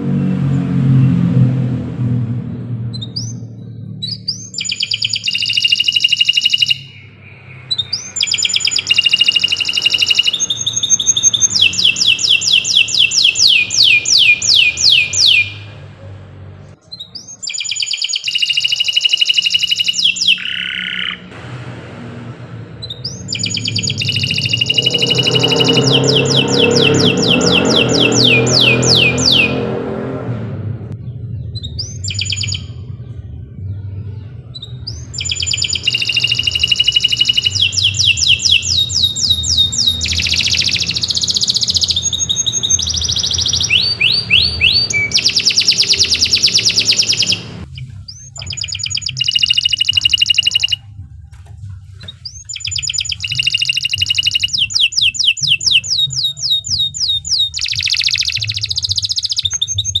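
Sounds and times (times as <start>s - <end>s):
canary singing trills: 2.9s - 21.3s, 22.8s - 29.9s, 31.0s - 51.0s, 51.7s - 60.0s.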